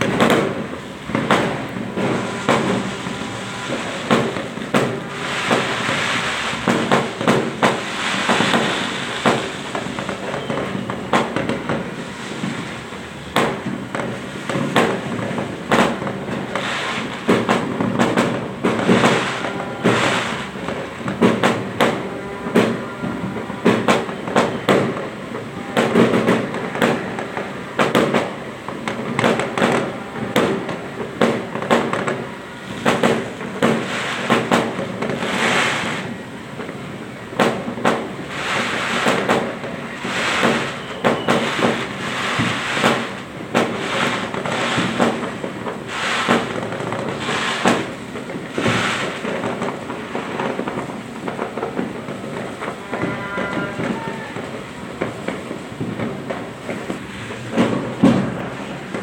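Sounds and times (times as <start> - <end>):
fireworks bangs: 0.0 - 59.0
fireworks crackling bursts: 0.0 - 59.0.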